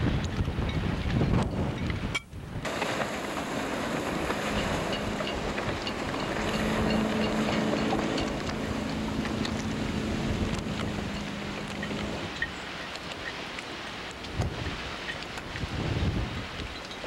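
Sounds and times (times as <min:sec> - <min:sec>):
wind buffeting microphone: 0:00.0 - 0:13.4, 0:14.0 - 0:17.0
choppy water: 0:00.0 - 0:17.0.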